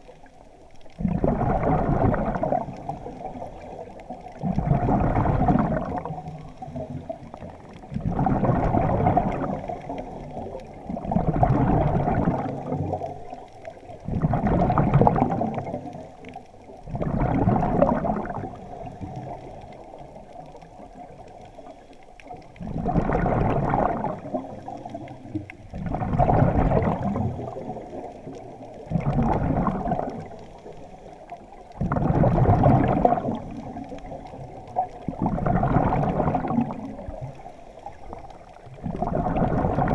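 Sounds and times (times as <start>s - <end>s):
exhaled bubbles underwater: 0.0s - 39.9s.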